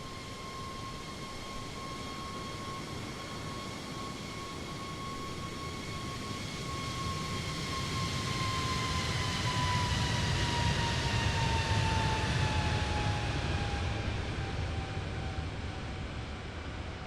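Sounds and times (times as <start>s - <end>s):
jet airliner engines passing: 0.2s - 17.0s.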